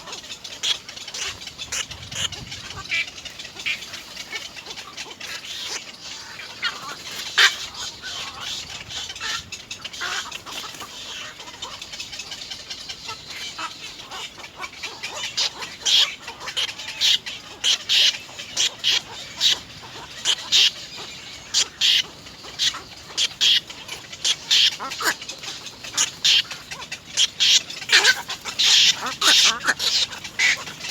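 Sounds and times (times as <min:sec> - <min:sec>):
nestling birds calling: 0:00.0 - 0:30.9.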